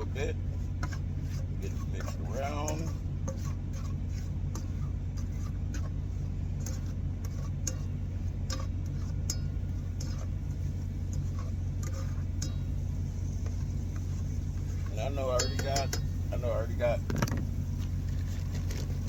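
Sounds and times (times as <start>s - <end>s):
steady low hum: 0.0s - 19.0s
utensil stirring food in a pan: 0.0s - 19.0s.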